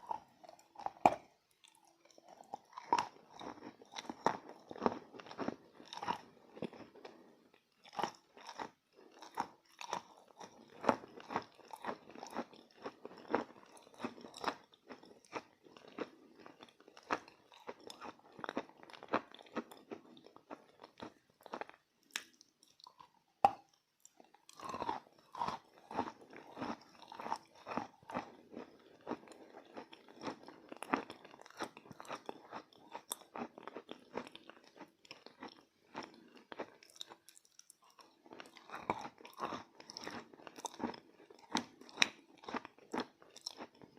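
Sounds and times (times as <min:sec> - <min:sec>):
person chewing chalk: 0:00.0 - 0:43.9.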